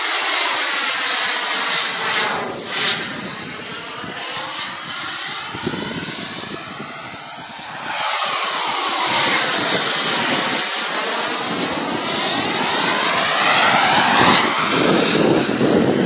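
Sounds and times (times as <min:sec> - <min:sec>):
fighter jet flying past: 0:00.0 - 0:16.0.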